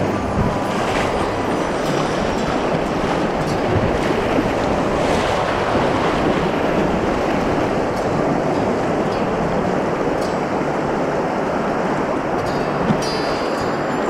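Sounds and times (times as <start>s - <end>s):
river water rushing: 0.0s - 14.0s
wind buffeting microphone: 0.0s - 14.0s.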